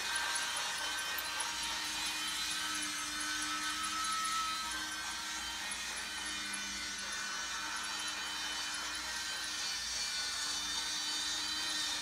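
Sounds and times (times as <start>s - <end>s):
toy train motor whirring: 0.0s - 12.0s.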